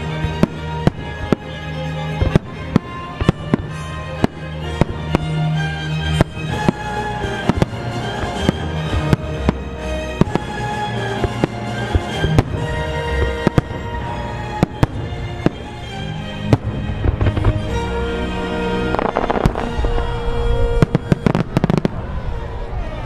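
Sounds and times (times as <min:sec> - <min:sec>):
music playing: 0:00.0 - 0:23.0
fireworks bangs: 0:02.2 - 0:05.4, 0:06.1 - 0:18.0, 0:18.8 - 0:22.5.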